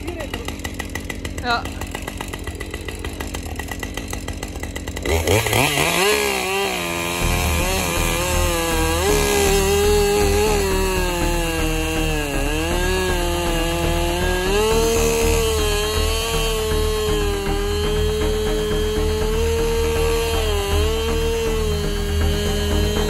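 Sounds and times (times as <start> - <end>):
chainsaw cutting tree trunk: 0.0 - 23.0.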